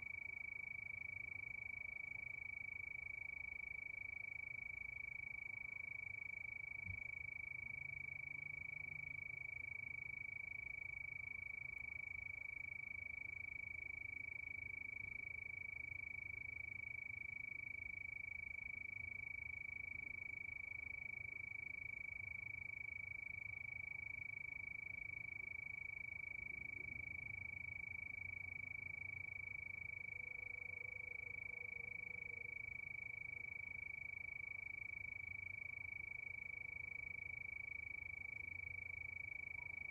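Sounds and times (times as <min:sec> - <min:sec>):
crickets trilling: 0:00.0 - 0:39.9
faint low hum: 0:00.0 - 0:39.9.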